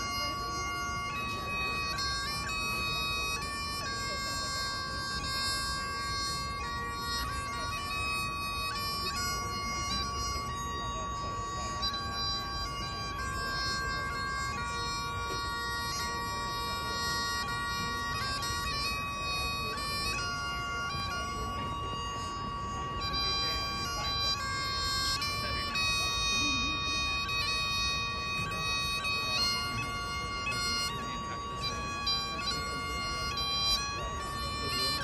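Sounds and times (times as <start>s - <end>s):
bagpipe chanter melody: 0.0s - 35.0s
bagpipe drone: 0.0s - 35.0s.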